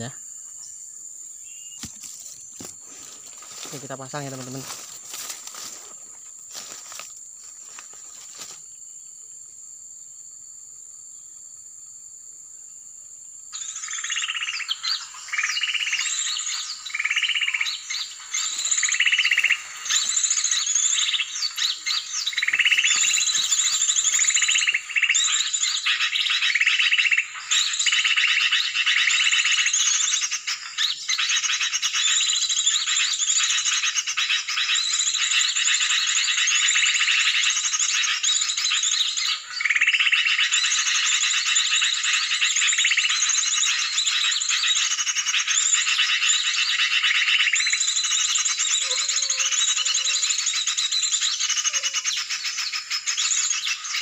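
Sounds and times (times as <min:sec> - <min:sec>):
high insect whine: 0:00.0 - 0:54.0.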